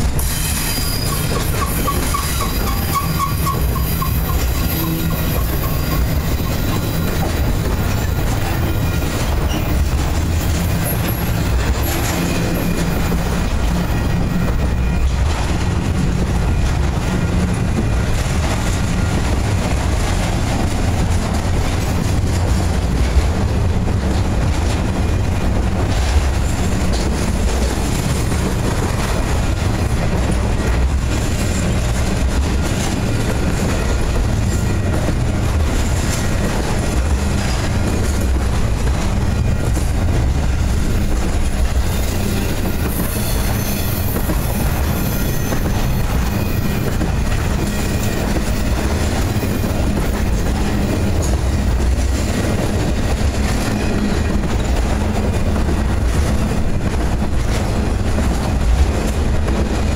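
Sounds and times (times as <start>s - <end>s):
clickety-clack over rail joints: 0.0s - 59.9s
freight train wheels rumbling on rail: 0.0s - 59.9s.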